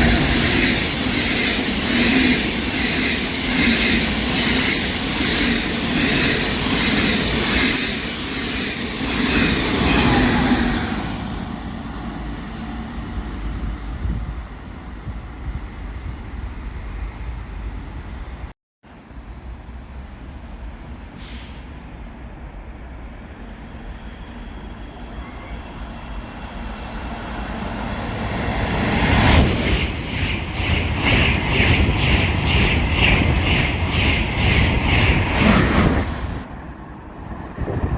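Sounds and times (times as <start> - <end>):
train running on rails: 0.0 - 37.9.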